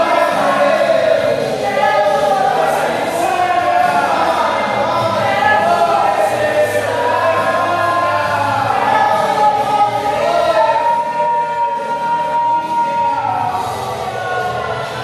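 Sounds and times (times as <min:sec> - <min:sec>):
choir singing gospel: 0:00.0 - 0:15.0
low steady accompaniment: 0:00.0 - 0:15.0.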